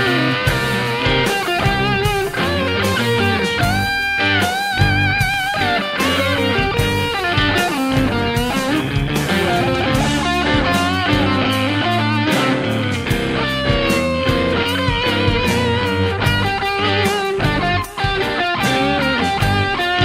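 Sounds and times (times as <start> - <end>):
electric bass: 0.0 - 20.0
electric guitar lead: 0.0 - 20.0
steady drum beat: 0.0 - 20.0.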